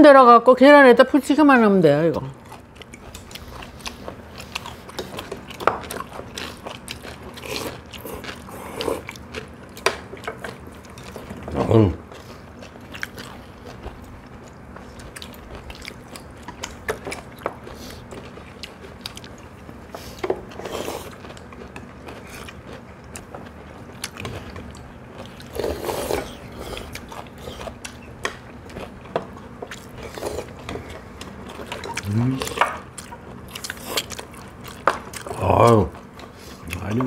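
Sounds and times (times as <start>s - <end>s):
people chewing: 2.1s - 37.0s.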